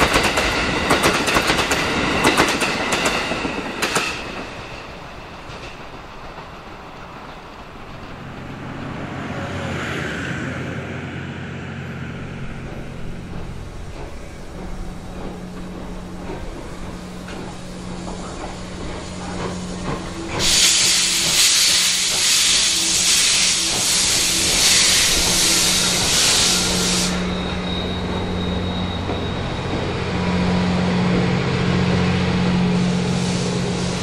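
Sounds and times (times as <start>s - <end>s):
steam locomotive hissing: 0.0s - 34.0s.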